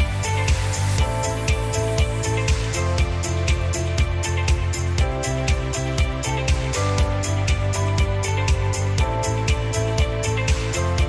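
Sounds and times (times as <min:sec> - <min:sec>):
background music with beat and bass: 0:00.0 - 0:11.0.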